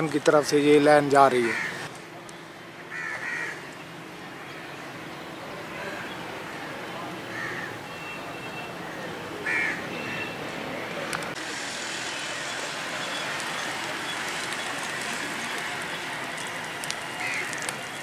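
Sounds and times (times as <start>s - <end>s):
distant traffic: 0.0s - 18.0s.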